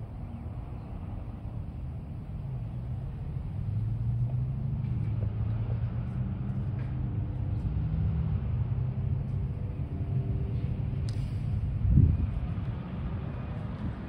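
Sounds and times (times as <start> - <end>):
road traffic: 0.0 - 14.0
vehicle engine running: 0.0 - 14.0.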